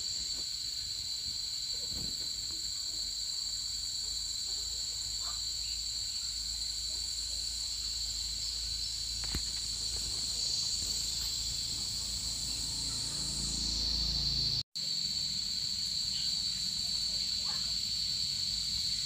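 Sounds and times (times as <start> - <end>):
insects droning shrilly: 0.0 - 19.0.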